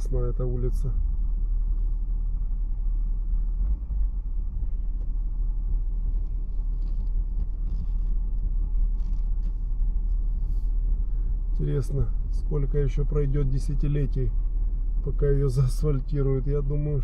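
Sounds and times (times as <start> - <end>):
low rumble inside car cabin: 0.0 - 17.0.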